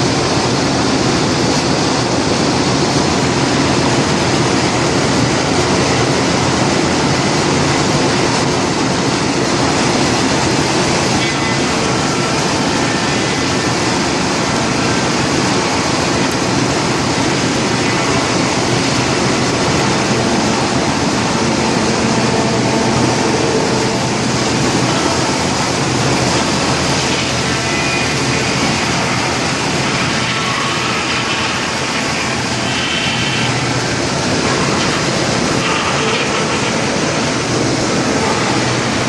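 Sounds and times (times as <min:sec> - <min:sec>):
loader engine running: 0:00.0 - 0:39.0
wood chipper running: 0:00.0 - 0:39.0.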